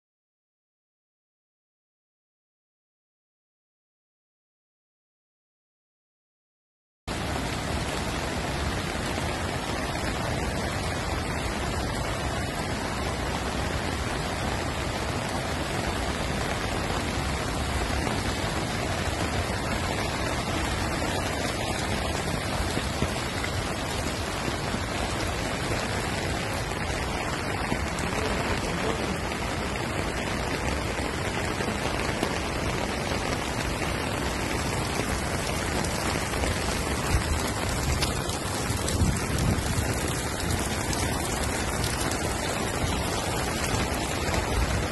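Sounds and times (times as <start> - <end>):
heavy rain falling: 7.1 - 44.9.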